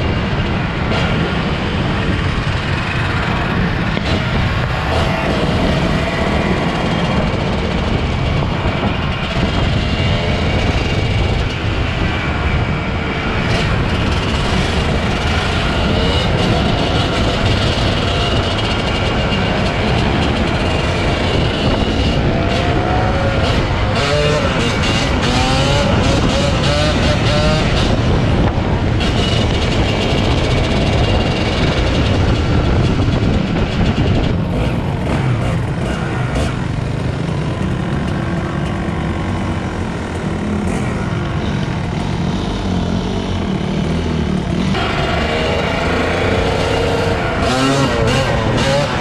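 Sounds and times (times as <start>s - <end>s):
dirt bike engines droning: 0.0s - 49.0s.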